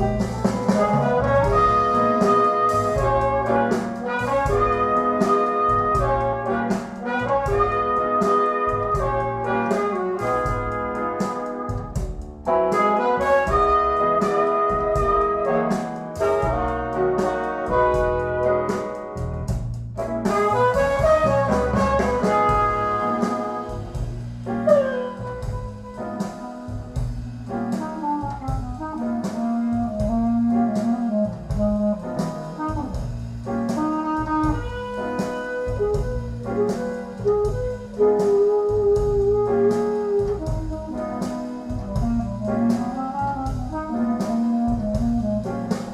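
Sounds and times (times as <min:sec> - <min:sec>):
jazz with brass instruments: 0:00.0 - 0:45.9.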